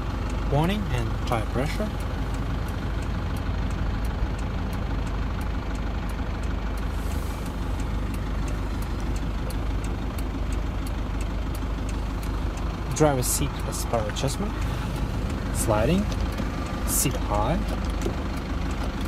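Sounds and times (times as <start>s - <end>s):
car engine idling: 0.0s - 19.0s
faint even ticking: 0.0s - 19.0s.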